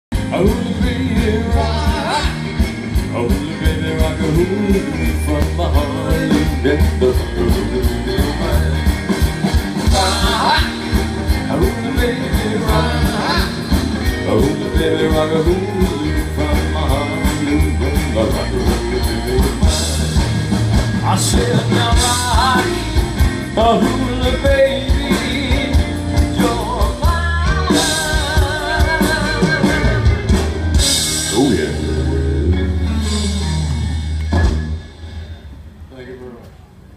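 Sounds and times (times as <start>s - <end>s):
drum kit steady beat: 0.1s - 35.2s
electric guitar: 0.1s - 36.6s
keyboards: 0.1s - 36.9s
person singing: 0.2s - 9.2s, 9.8s - 20.4s, 21.0s - 30.5s, 31.3s - 33.7s.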